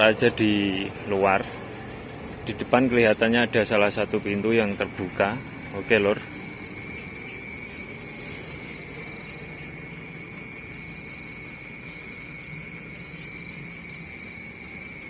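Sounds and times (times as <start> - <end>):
distant highway traffic rumble: 0.0 - 15.0
high-pitched drone: 0.0 - 15.0.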